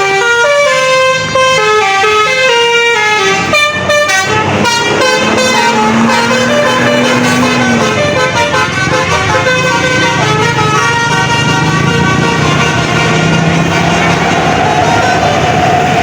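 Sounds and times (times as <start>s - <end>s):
bus horn melody: 0.0s - 16.0s.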